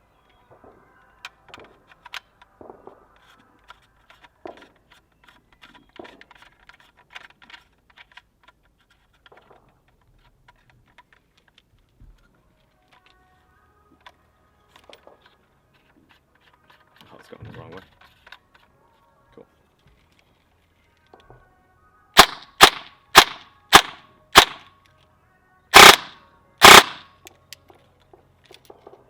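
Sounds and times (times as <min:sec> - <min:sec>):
light clicks of gun parts: 0:00.2 - 0:21.5, 0:25.7 - 0:29.0.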